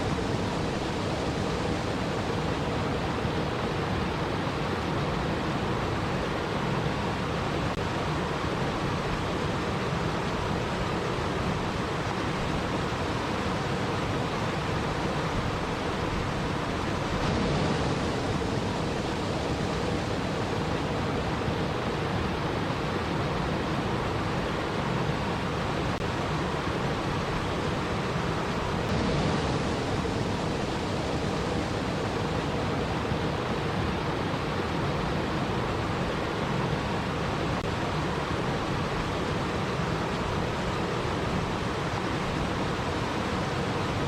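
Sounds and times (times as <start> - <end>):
rushing water: 0.0 - 44.0.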